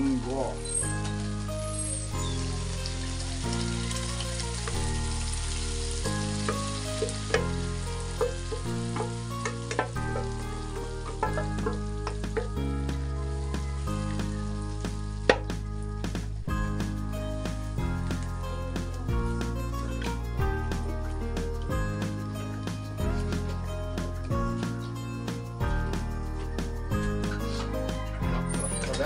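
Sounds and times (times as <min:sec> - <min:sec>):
background music: 0:00.0 - 0:29.0
beans sizzling in a wok: 0:00.0 - 0:29.0.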